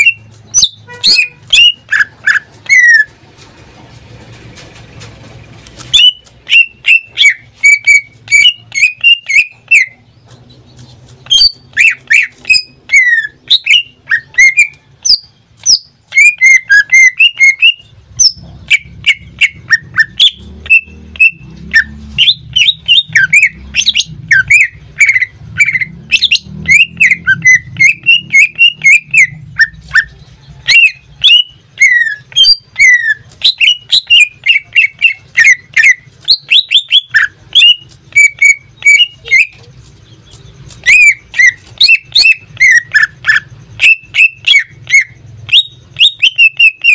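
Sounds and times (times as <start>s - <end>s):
bird singing chirps and whistles: 0.0s - 3.1s, 5.9s - 10.0s, 11.2s - 46.9s.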